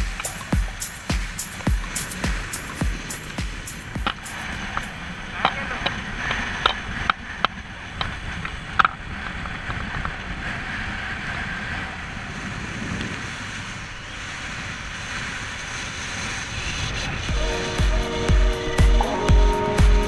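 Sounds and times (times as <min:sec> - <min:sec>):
motorcycle at highway speed: 0:00.0 - 0:20.0
wind on microphone: 0:00.0 - 0:20.0.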